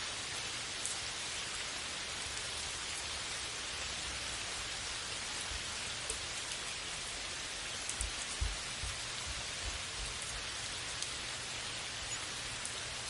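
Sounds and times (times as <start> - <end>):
steady rain: 0.0 - 13.0
rain ticks and soft thumps: 0.1 - 13.0.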